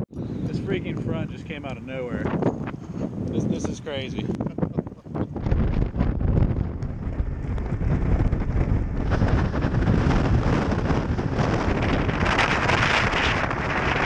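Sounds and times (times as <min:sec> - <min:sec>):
storm wind buffeting microphone: 0:00.0 - 0:14.0.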